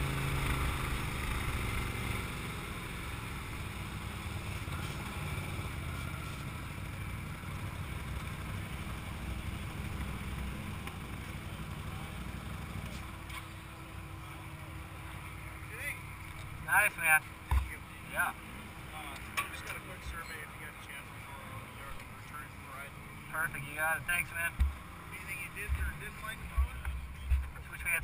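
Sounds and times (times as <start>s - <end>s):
engine running at low speed: 0.0s - 28.0s.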